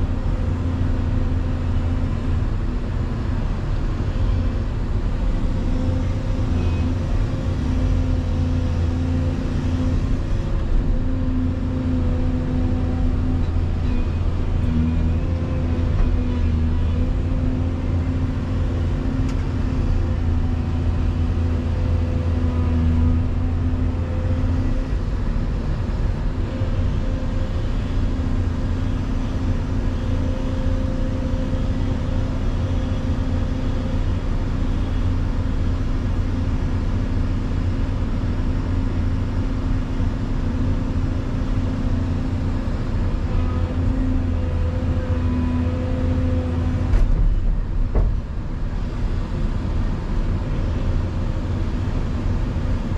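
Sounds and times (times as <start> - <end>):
excavator engine and hydraulics: 0.0 - 52.9.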